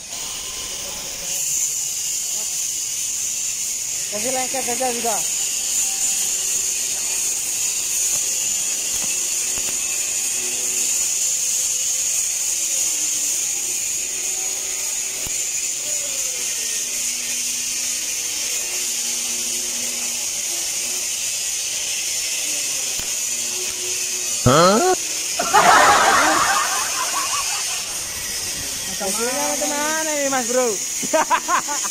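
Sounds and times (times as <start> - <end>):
welding arc hissing: 0.0 - 31.9.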